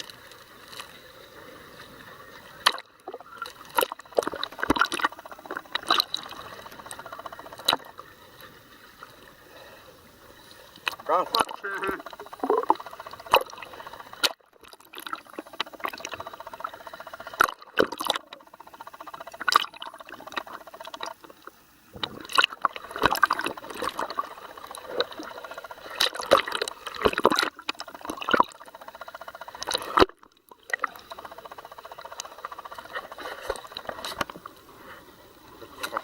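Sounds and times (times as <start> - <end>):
water sloshing and bubbling: 0.0 - 36.0.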